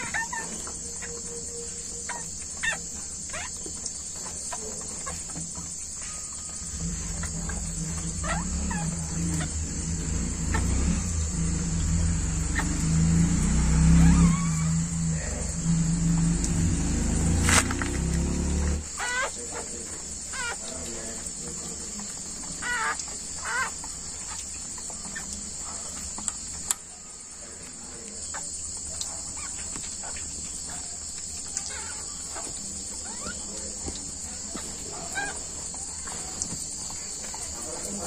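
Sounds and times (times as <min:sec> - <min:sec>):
puppies squeaking: 0:00.0 - 0:15.8, 0:16.4 - 0:27.0, 0:28.3 - 0:38.0
insects chirring: 0:00.0 - 0:38.0.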